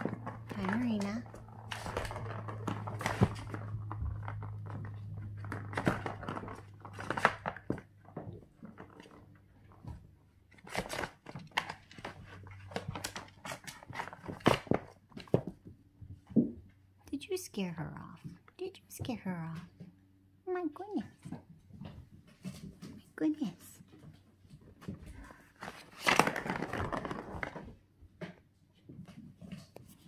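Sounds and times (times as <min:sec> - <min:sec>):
low steady hum: 0:00.0 - 0:25.8.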